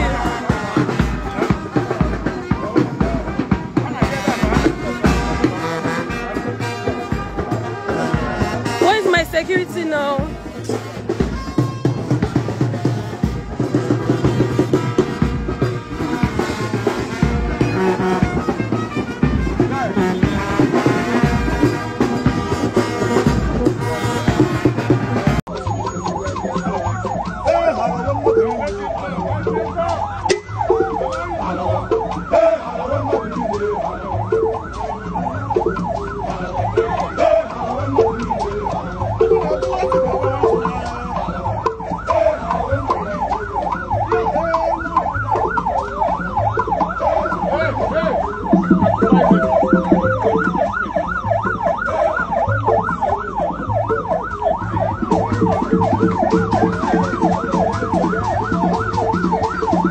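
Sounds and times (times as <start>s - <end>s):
lively band music: 0.0s - 59.9s
siren wailing: 0.0s - 59.9s.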